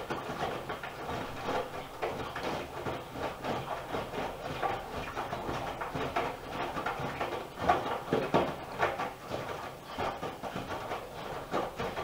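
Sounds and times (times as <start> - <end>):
wet laundry sloshing and thudding: 0.0 - 12.0.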